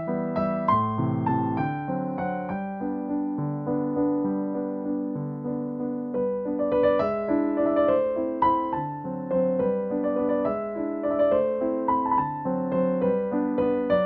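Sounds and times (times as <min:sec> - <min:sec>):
piano melody over chords: 0:00.0 - 0:14.0.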